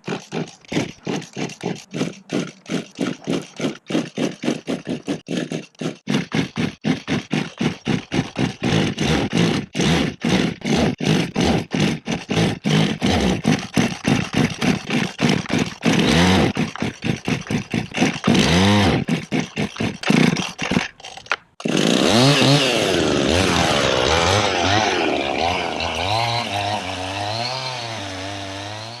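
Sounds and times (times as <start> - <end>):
chainsaw engine revving: 0.0 - 29.0.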